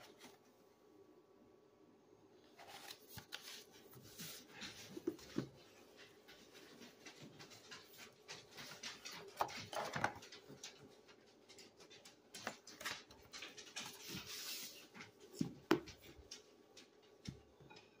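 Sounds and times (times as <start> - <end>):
book pages rustling and turning: 0.0 - 0.6, 2.4 - 10.9, 11.7 - 17.4.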